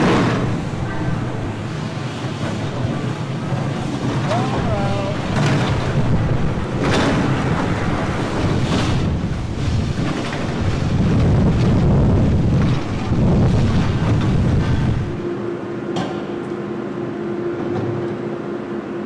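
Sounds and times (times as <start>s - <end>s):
wind buffeting microphone: 0.0s - 15.3s.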